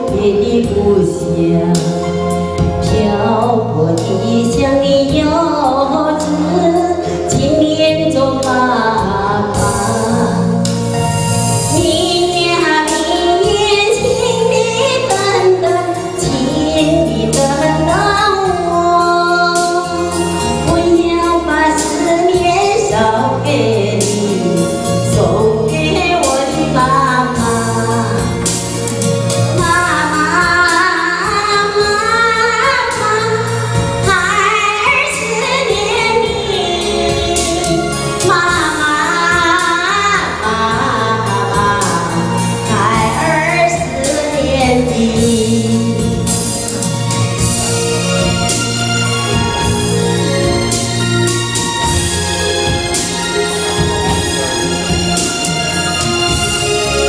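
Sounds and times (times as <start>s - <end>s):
woman singing into microphone: 0.0s - 48.7s
instrumental accompaniment: 0.0s - 57.0s.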